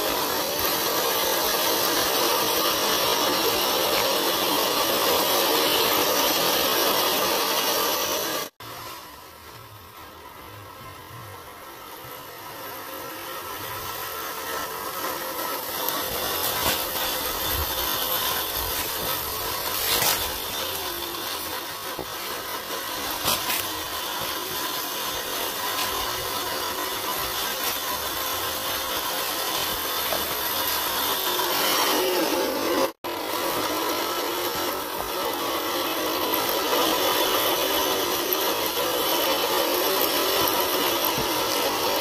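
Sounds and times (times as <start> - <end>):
electric motor whirring: 0.0 - 42.0.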